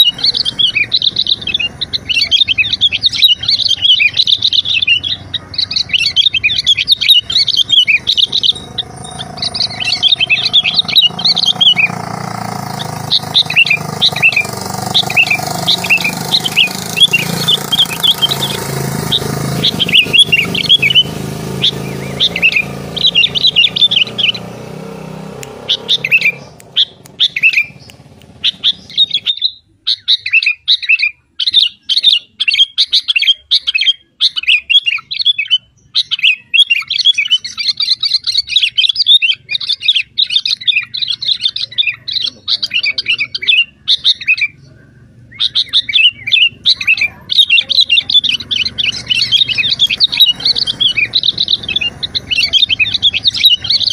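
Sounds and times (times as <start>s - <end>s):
bird chirping and twittering: 0.0s - 53.9s.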